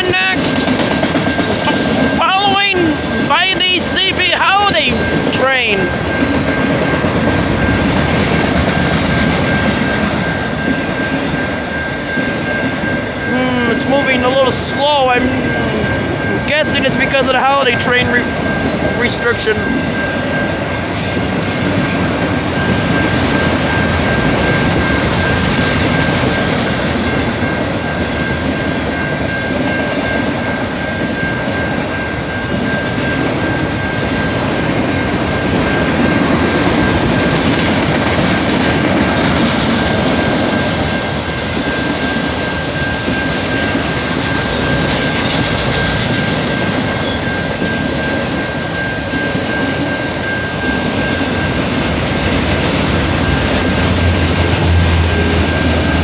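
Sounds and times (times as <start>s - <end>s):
freight train rumbling on rails: 0.0s - 56.0s
thin steady high tone: 0.0s - 56.0s.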